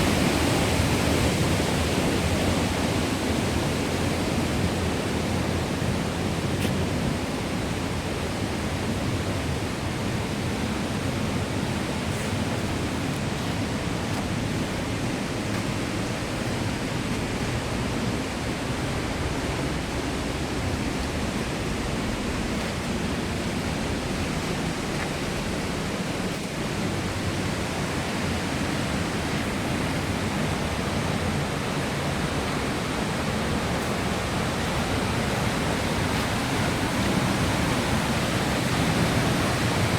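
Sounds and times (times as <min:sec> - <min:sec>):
rushing stream and waterfall: 0:00.0 - 0:39.9.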